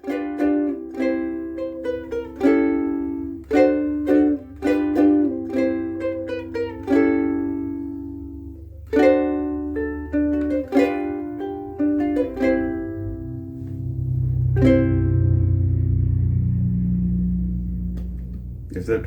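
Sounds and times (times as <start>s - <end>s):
ukulele plucked and strummed: 0.0s - 19.0s.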